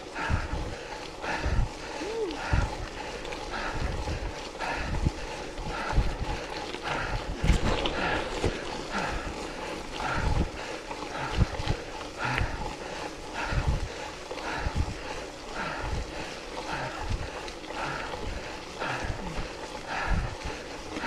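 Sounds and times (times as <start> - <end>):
person breathing hard: 0.0 - 21.0
wind rumbling on microphone: 0.0 - 21.0.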